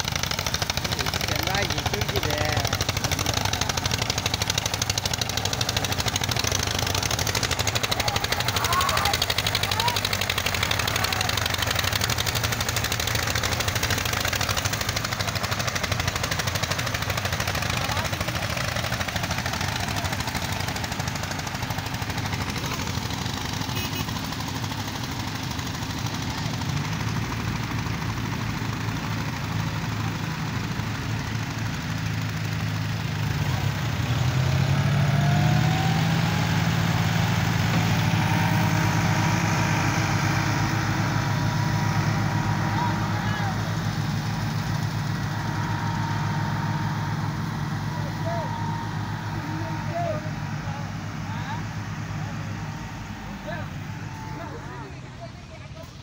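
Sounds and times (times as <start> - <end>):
diesel tractor engine revving: 0.0 - 56.0.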